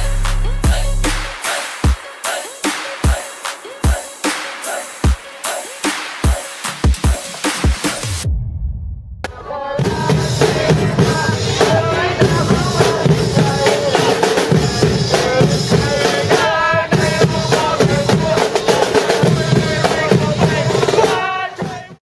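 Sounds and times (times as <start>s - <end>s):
music with heavy drum beat: 0.0s - 22.0s.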